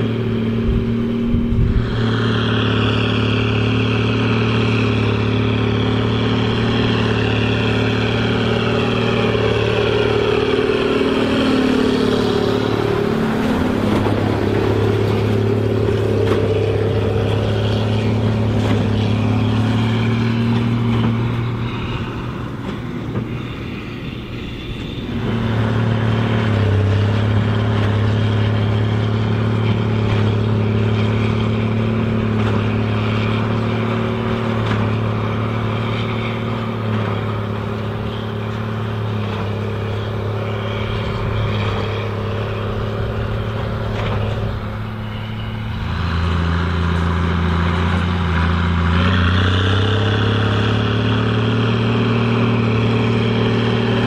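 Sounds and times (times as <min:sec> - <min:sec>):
diesel tractor engine under load: 0:00.0 - 0:54.0
falling whine: 0:00.0 - 0:54.0.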